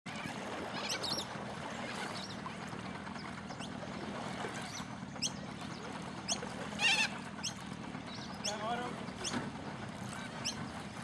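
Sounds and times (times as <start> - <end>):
boat engine idling: 0.1 - 11.0.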